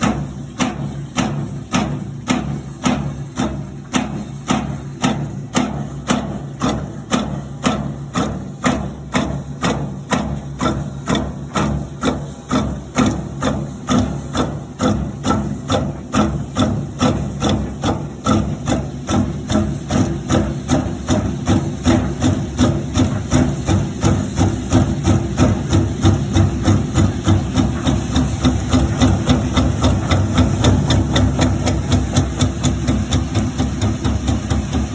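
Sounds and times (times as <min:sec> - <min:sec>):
steady motor hum: 0:00.0 - 0:34.9
washing machine knocking: 0:00.0 - 0:34.9.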